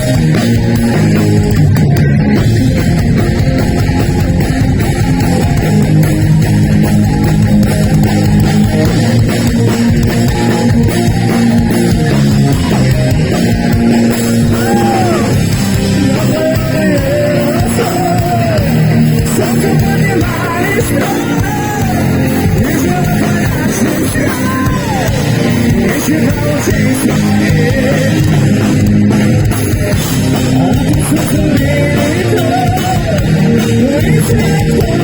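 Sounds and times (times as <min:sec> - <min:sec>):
lead guitar bending notes: 0:00.0 - 0:33.8
live heavy metal band: 0:00.0 - 0:35.0.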